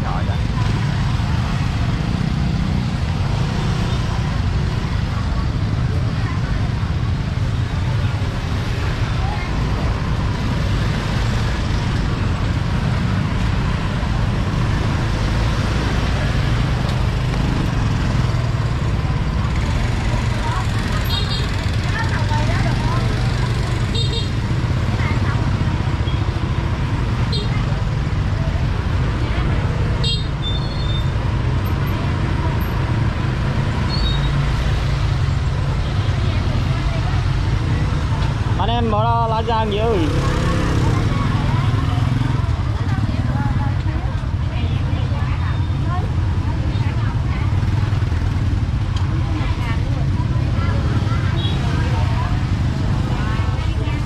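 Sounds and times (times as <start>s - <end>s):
motorbike engines droning: 0.0s - 54.0s
people's voices: 0.0s - 54.0s
street bustle: 0.0s - 54.0s.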